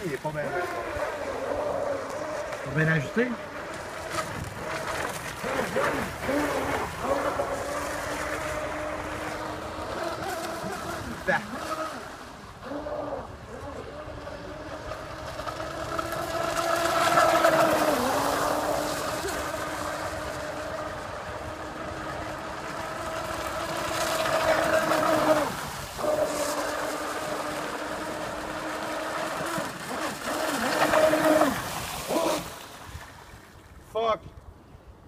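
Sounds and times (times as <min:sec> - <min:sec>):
high motor whine: 0:00.4 - 0:31.6.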